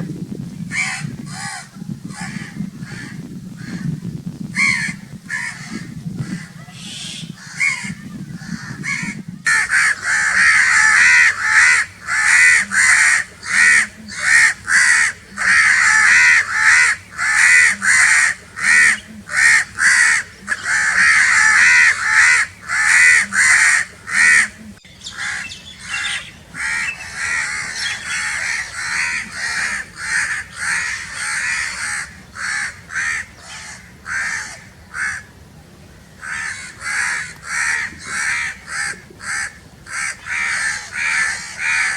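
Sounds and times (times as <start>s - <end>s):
crows cawing: 4.6s - 35.3s, 36.2s - 41.9s.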